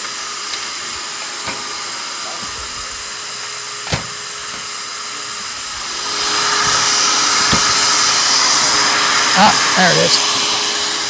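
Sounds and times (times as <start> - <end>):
fan-like whirring hiss: 0.0 - 11.0.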